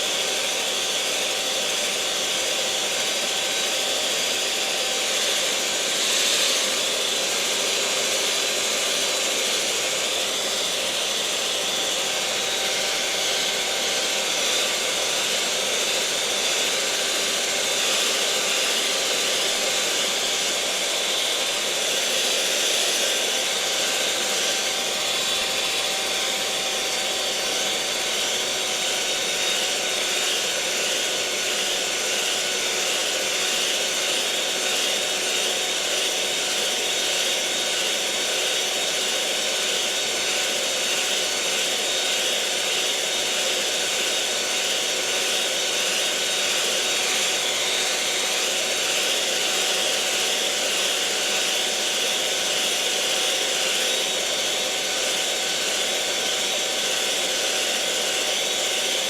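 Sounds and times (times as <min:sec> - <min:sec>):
electric mixer motor whirring: 0:00.0 - 0:59.0.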